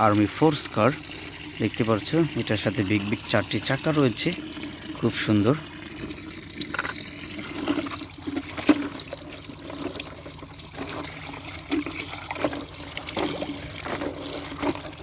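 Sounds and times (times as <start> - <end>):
water splashing over plastic toys: 0.0 - 15.0.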